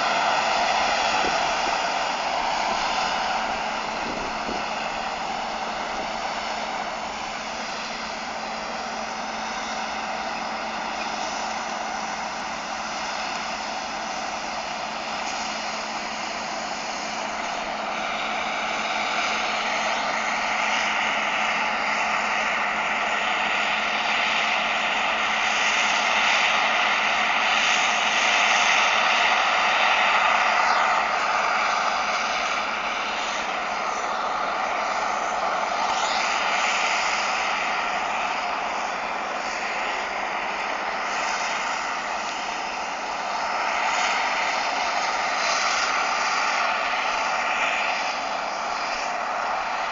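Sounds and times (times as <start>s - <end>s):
harvest machinery engine drone: 0.0s - 49.9s.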